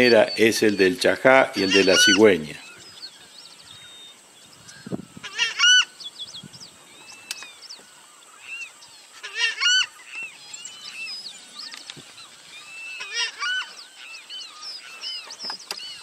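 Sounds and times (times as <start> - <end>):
small birds chirping faintly: 0.0 - 16.0.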